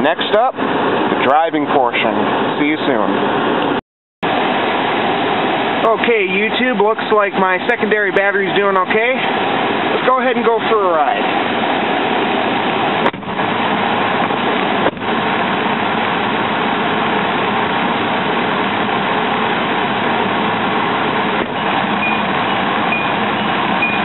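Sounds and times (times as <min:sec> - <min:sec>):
loud rushing noise: 0:00.2 - 0:24.0.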